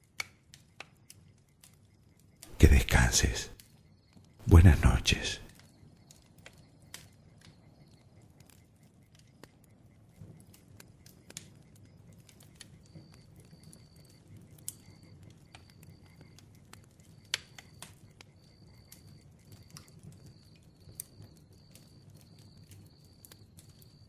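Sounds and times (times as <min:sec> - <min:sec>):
bonfire crackling: 0:00.0 - 0:03.8, 0:04.4 - 0:24.0.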